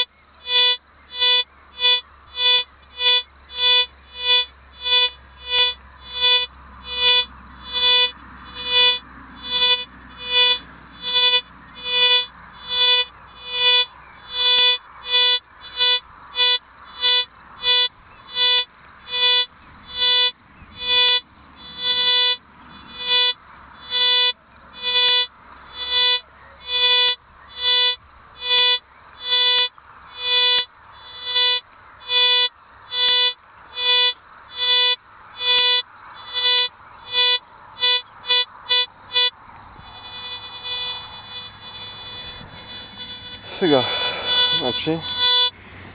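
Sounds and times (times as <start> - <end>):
metal detector beeps: 0.0 - 45.6
faint steady tone: 0.0 - 45.9.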